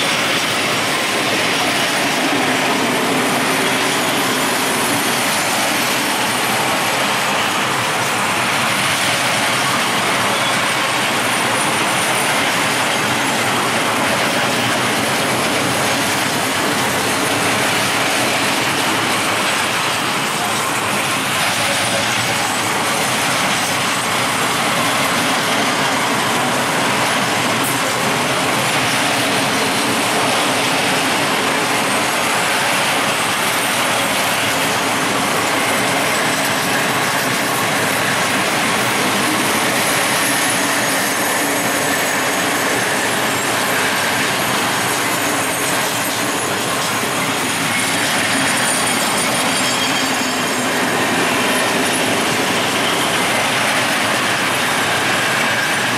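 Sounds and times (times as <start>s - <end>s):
high wheel squeal: 0.0s - 55.9s
train wheels rumbling on rails: 0.0s - 55.9s.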